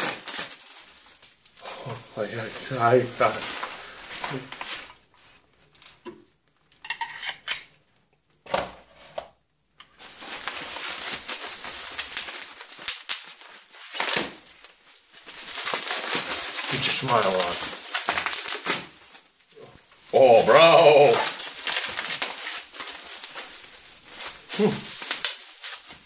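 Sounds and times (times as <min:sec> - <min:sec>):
bubble wrap crinkling: 0:00.0 - 0:08.1, 0:09.7 - 0:26.0.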